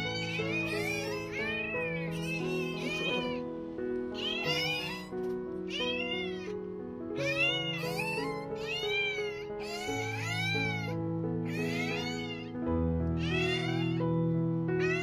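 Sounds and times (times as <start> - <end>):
puppies whining: 0.0 - 3.5, 4.1 - 6.6, 7.2 - 12.5, 13.2 - 14.0
background music: 0.0 - 15.0.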